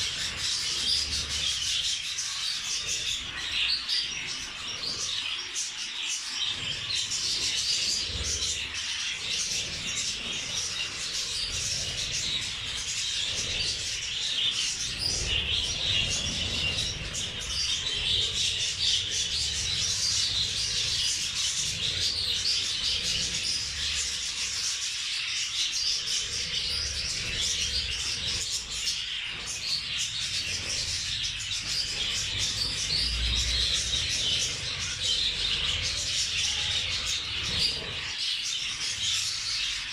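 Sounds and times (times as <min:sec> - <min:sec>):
small birds chattering and chirping: 0:00.0 - 0:39.9.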